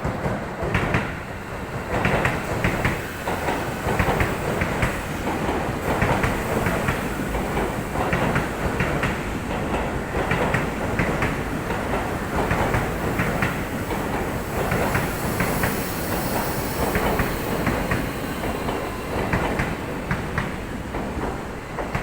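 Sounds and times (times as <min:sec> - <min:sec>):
train passing rumble: 0:00.0 - 0:22.0
train wheels clattering: 0:00.0 - 0:22.0.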